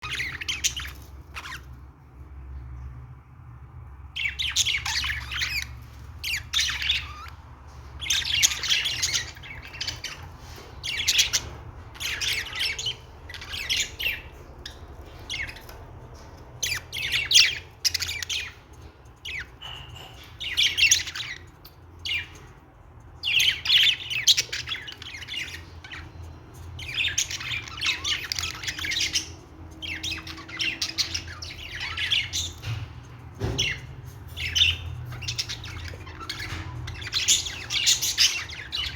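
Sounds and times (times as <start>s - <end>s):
budgerigars chattering and warbling: 0.0s - 1.9s, 4.1s - 22.6s, 23.2s - 38.9s.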